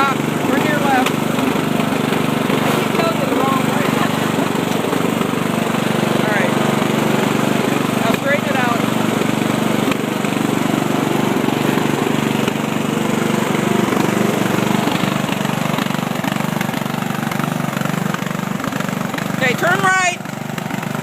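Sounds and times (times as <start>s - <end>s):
riding lawn mower engine running: 0.0s - 21.0s.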